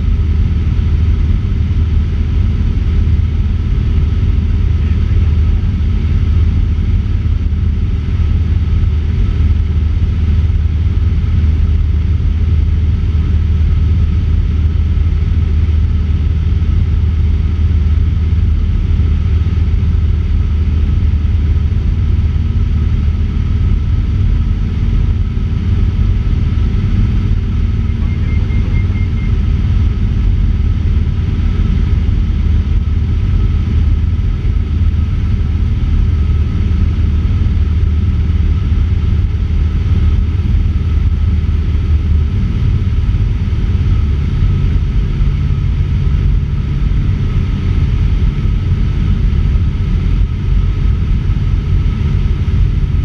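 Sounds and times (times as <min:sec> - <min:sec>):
airplane engine and propeller drone: 0:00.0 - 0:53.0.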